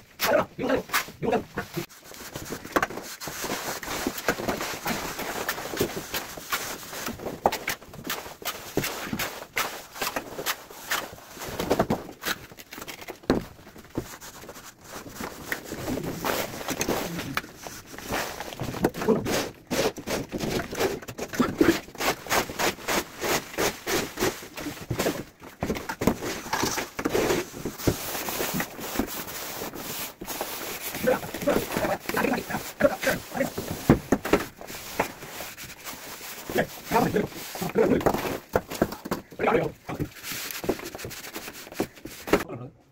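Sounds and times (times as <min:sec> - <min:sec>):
trowels scraping and slapping mortar: 0:00.1 - 0:42.5.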